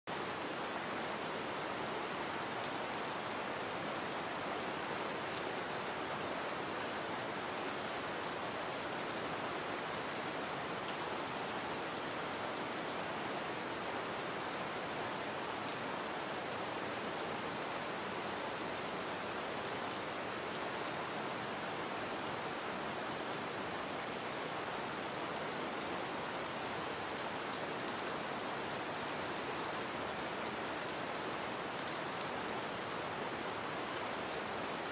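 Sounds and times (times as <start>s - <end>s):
gentle rain falling: 0.1s - 34.9s.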